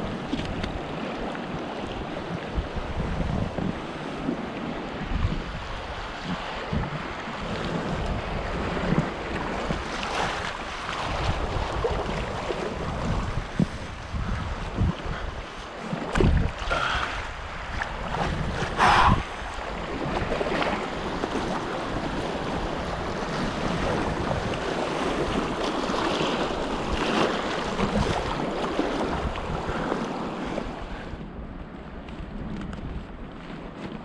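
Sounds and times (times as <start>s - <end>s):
river water rushing and splashing: 0.0s - 31.2s
wind on microphone: 0.0s - 34.0s.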